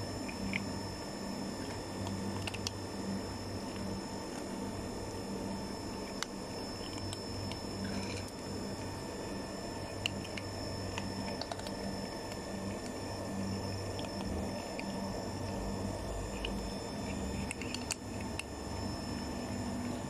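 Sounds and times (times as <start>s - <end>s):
cats crunching dry kibble: 0.0s - 20.0s
steady low hum: 0.0s - 20.0s.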